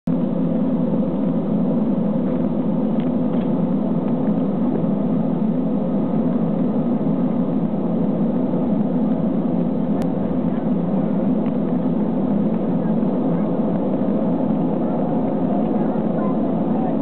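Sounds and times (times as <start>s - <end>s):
airplane cabin rumble while taxiing: 0.1s - 17.0s.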